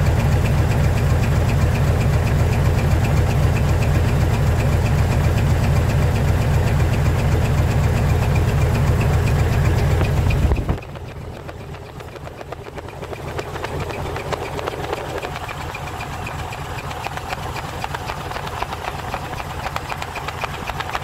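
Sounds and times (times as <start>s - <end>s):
diesel truck engine: 0.0s - 21.0s.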